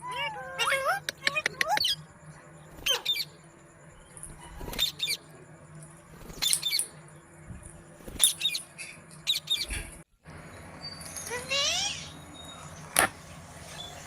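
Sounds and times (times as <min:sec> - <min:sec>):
parakeets calling: 0:00.0 - 0:05.4, 0:06.3 - 0:07.0, 0:08.2 - 0:14.0.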